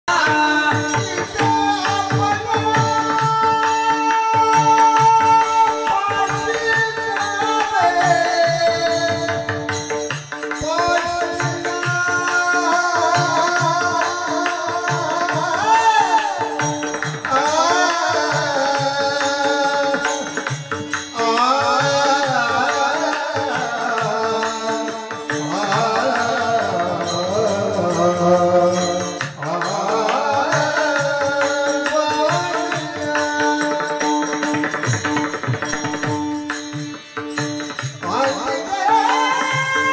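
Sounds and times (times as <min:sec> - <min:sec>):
man singing devotional song: 0:00.0 - 0:39.9
hand drum beat: 0:00.1 - 0:39.9
jingling percussion: 0:00.1 - 0:39.9.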